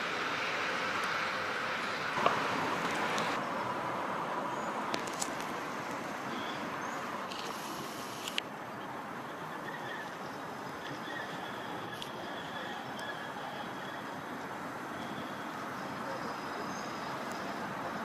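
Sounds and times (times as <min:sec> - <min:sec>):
tram rumbling by: 0:00.0 - 0:07.3, 0:08.8 - 0:18.0.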